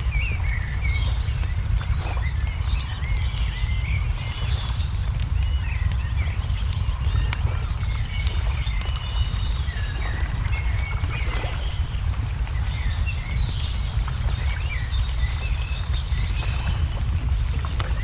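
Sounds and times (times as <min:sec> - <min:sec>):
low rumble: 0:00.0 - 0:18.0
small birds chirping: 0:00.0 - 0:18.0
wood fire crackling and popping: 0:00.0 - 0:18.0.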